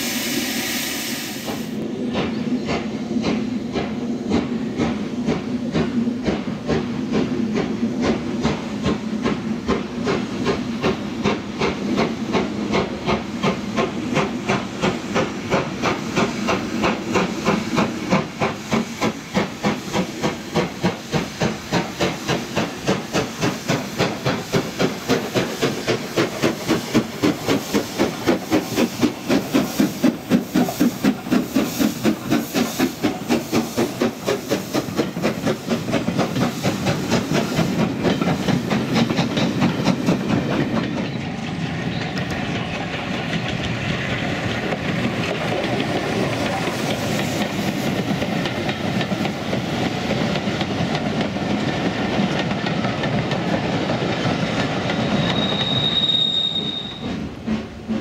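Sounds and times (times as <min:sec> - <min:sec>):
hiss of steam: 0:00.0 - 0:58.0
steam locomotive chuffing: 0:00.0 - 0:58.0.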